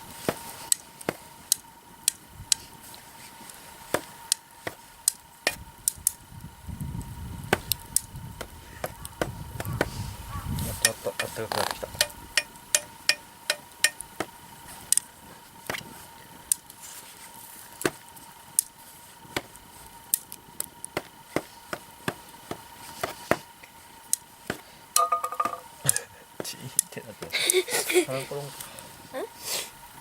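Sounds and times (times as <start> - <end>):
campfire crackling and popping: 0.0 - 30.0
faint high whine of burning wood: 0.0 - 30.0.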